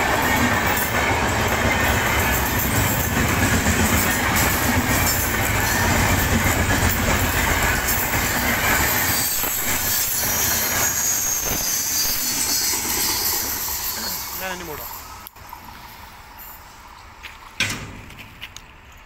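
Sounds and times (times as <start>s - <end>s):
train wheels rumbling on rail: 0.0s - 19.0s
wheels clacking over rail joints: 0.0s - 19.0s
wheel flanges squealing: 0.2s - 17.2s.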